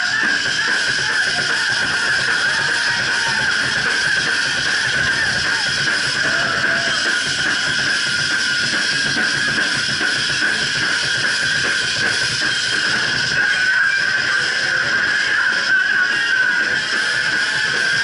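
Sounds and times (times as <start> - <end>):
band playing loud music: 0.0 - 18.0.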